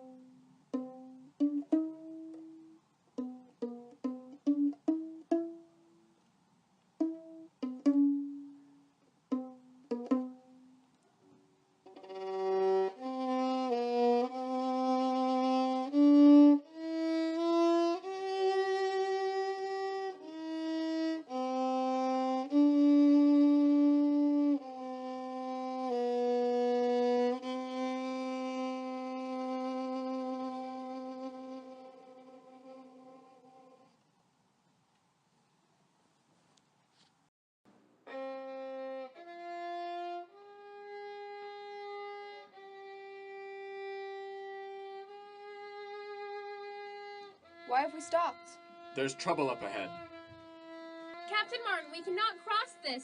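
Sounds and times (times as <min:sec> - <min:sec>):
slow bowed violin melody: 0:00.0 - 0:06.0, 0:07.0 - 0:11.0, 0:11.8 - 0:34.0, 0:38.0 - 0:53.0
plucked string notes: 0:00.0 - 0:06.1, 0:07.0 - 0:11.0, 0:11.8 - 0:33.9, 0:38.1 - 0:53.0.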